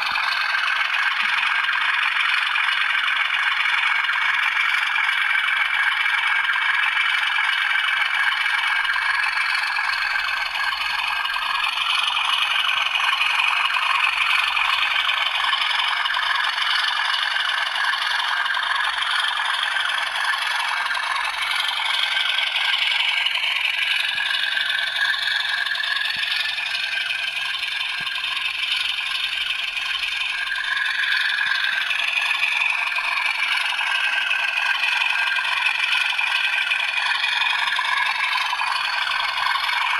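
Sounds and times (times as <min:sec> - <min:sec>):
thin diesel engine drone from speakers: 0:00.0 - 0:39.9.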